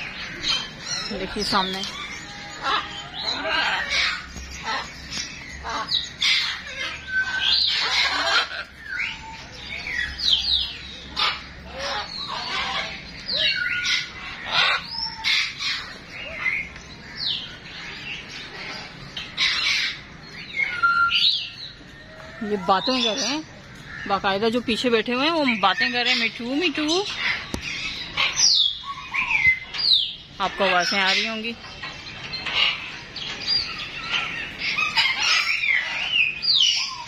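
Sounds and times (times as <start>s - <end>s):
parrots squawking and chattering: 0.0s - 37.0s.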